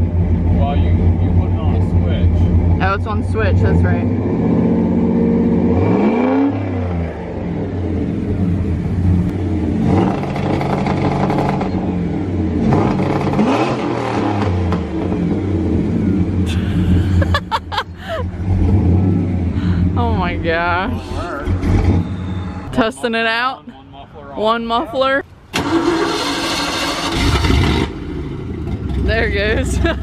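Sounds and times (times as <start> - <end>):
truck engine idling and revving: 0.0 - 30.0.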